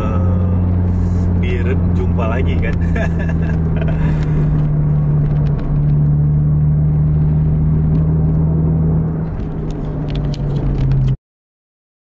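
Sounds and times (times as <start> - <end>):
vehicle engine drone: 0.0 - 11.2.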